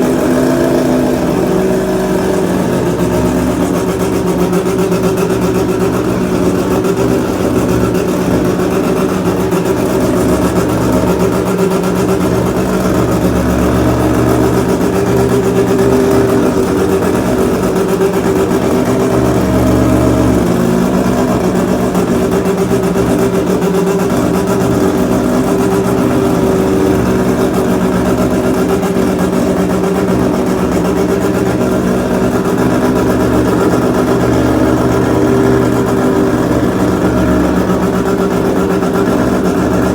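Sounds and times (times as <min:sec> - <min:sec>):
rotary engine idling: 0:00.0 - 0:39.9.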